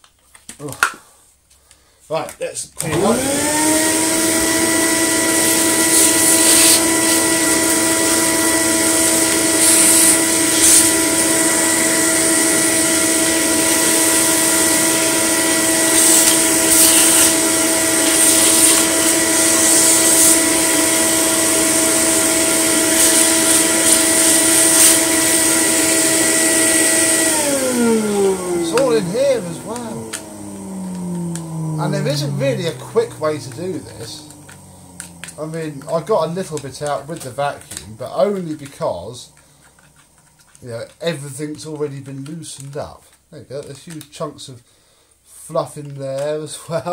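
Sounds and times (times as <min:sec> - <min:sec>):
vacuum cleaner motor whine: 0:02.8 - 0:42.8.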